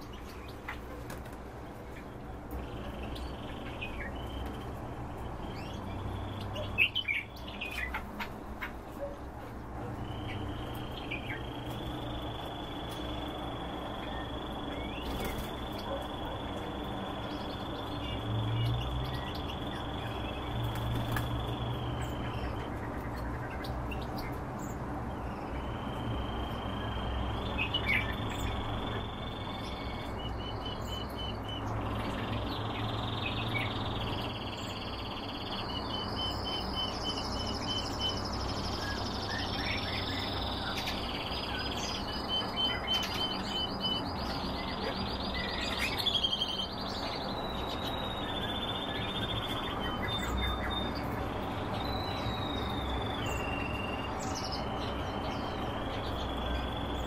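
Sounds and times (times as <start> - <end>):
finches singing: 0.0 - 57.0.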